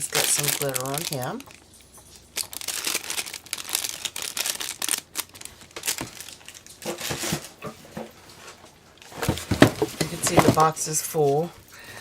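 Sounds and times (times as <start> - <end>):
packaging crinkling: 0.0 - 11.4.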